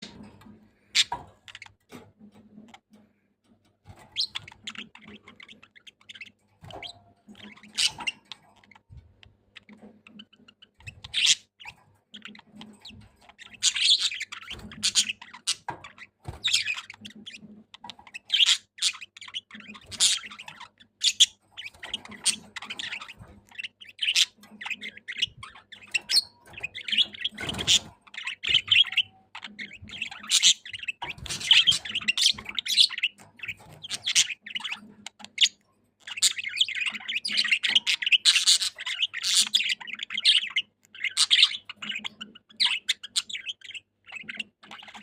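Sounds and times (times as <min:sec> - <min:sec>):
budgerigar chirping: 0:04.0 - 0:08.8, 0:09.6 - 0:45.0.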